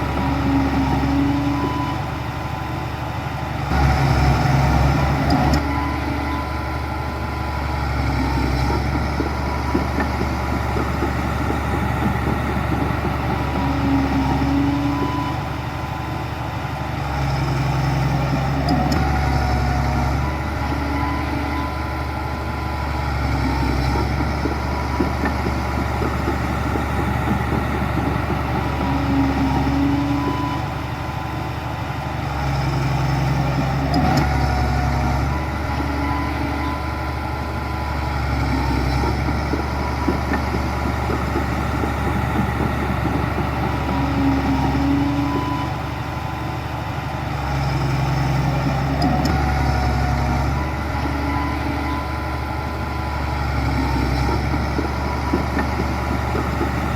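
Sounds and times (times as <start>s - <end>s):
heavy diesel machinery running: 0.0s - 56.9s.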